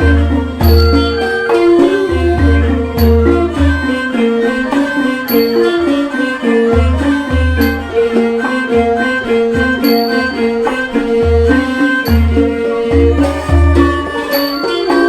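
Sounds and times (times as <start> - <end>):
melodic instruments playing: 0.0 - 15.0.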